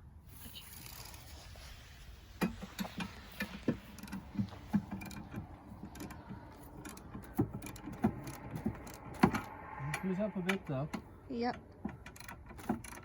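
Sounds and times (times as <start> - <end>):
building creaking: 0.7 - 13.0
jack clicking and knocking: 2.4 - 13.0.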